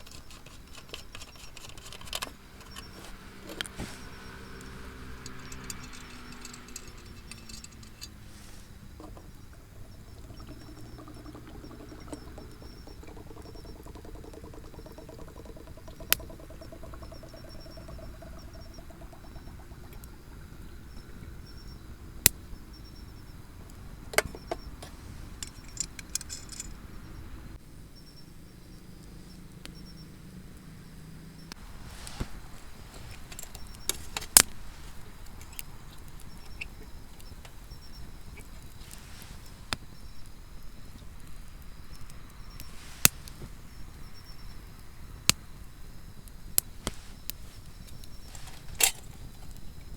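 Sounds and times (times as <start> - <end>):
insects chirping: 0.0 - 49.9.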